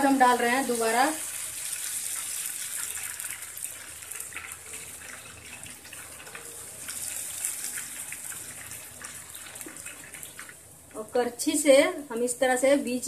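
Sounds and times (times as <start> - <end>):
batter sizzling in hot fat: 0.0 - 11.2.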